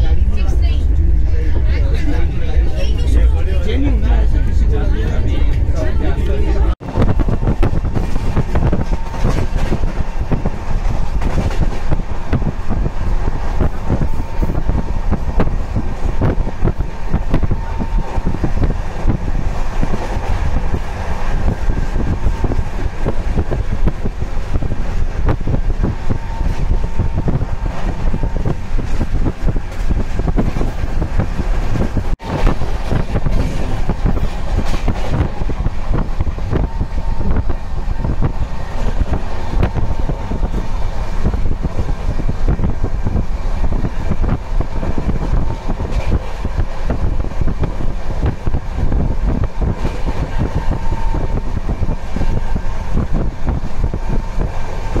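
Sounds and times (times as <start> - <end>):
train wheels rumbling on rails: 0.0 - 55.0
wind noise: 0.0 - 55.0.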